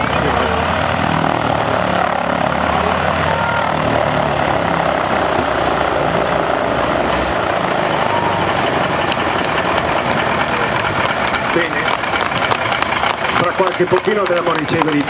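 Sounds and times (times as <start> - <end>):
radial aircraft engine running: 0.0 - 15.0.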